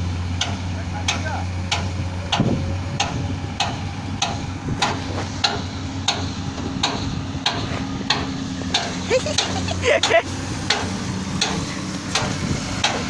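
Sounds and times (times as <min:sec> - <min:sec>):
construction machine engine running: 0:00.0 - 0:13.0
sharp knocks: 0:00.4 - 0:13.0.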